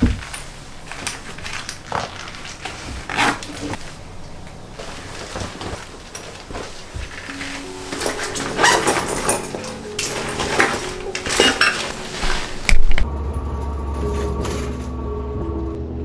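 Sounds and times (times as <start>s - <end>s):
person rustling: 0.0s - 13.1s.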